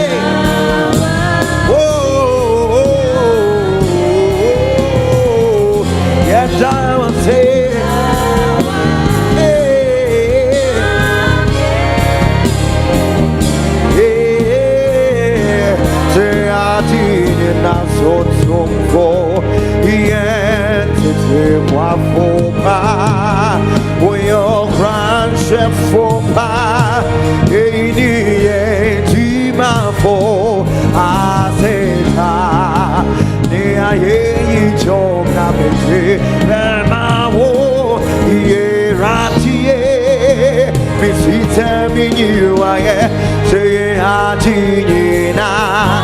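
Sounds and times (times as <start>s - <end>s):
gospel band with heavy bass: 0.0s - 46.0s
person singing: 0.0s - 46.0s.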